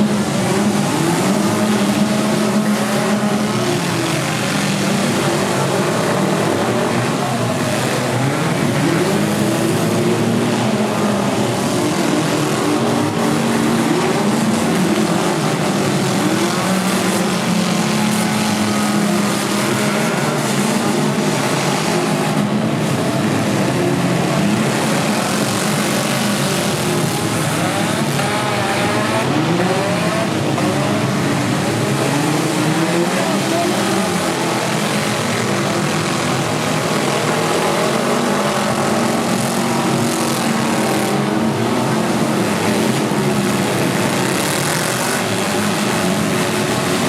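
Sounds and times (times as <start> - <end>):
car engines revving: 0.0 - 47.0.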